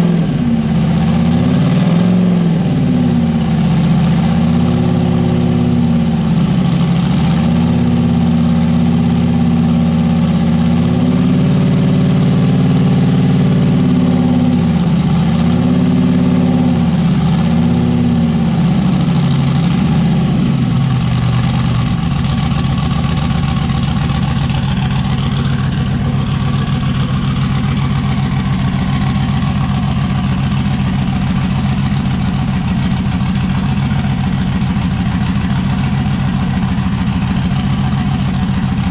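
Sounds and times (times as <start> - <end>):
truck engine revving and idling: 0.0 - 38.9.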